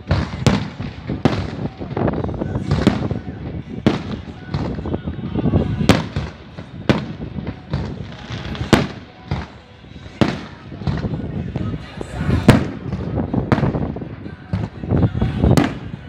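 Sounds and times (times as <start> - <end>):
crowd murmur: 0.0 - 16.0.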